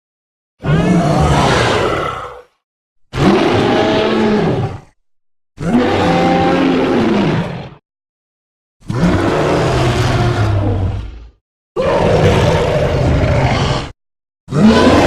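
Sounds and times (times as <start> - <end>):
dinosaur roar: 0.6 - 2.5, 3.1 - 5.0, 5.6 - 7.8, 8.8 - 15.0.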